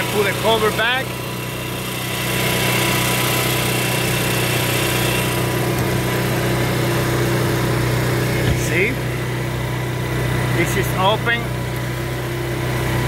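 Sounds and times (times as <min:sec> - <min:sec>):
generator running: 0:00.0 - 0:13.0.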